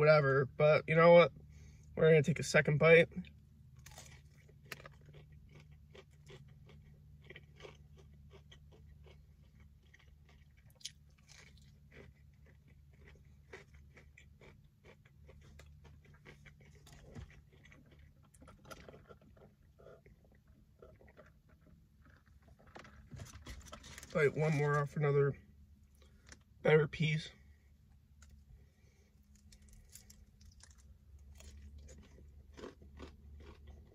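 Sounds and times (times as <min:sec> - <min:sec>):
low steady hum: 0:00.0 - 0:33.9
chewing crunchy food: 0:03.2 - 0:24.9, 0:28.2 - 0:33.9.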